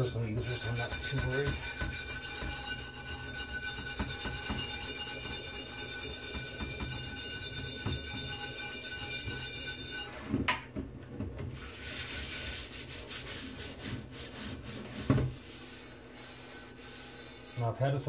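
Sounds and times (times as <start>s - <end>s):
wire brush scrubbing iron pan: 0.0s - 9.6s, 11.6s - 17.8s.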